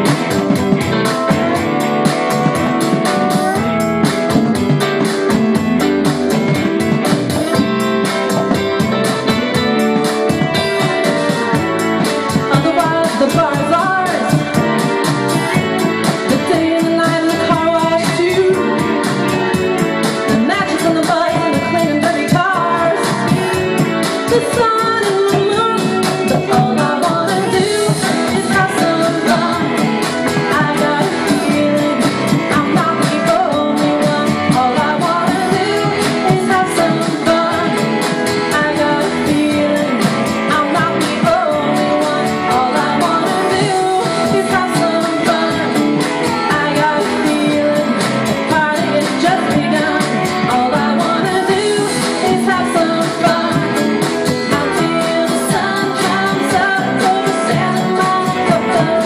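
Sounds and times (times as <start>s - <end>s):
guitar: 0.0s - 59.0s
woman singing into microphone: 0.0s - 59.0s.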